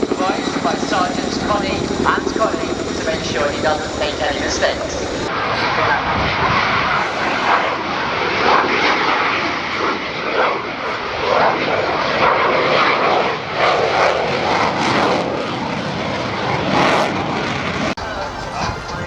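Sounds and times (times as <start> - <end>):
aircraft engine in flight: 0.0 - 19.0.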